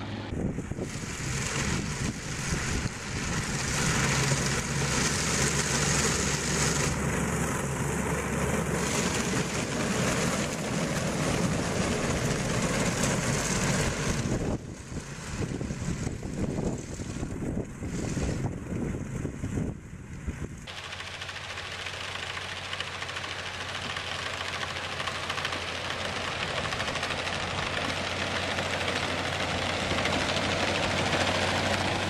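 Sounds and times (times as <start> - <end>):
snowcat engine running: 0.0 - 32.0.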